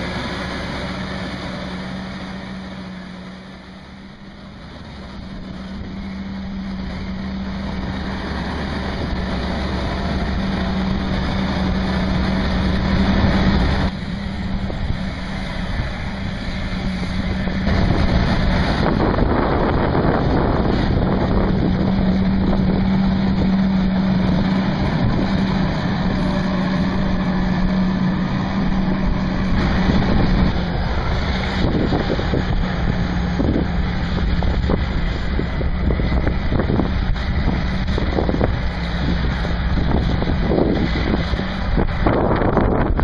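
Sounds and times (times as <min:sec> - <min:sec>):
bulldozer diesel engine running: 0:00.0 - 0:43.0
wind rumbling on microphone: 0:00.0 - 0:43.0.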